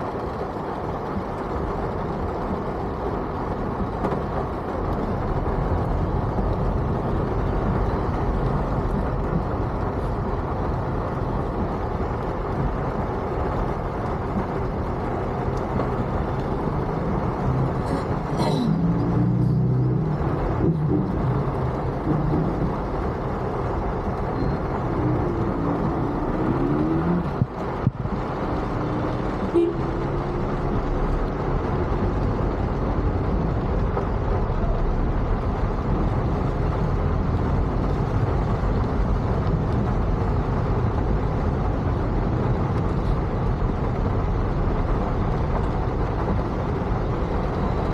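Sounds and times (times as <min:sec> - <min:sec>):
heavy traffic noise: 0:00.0 - 0:47.9.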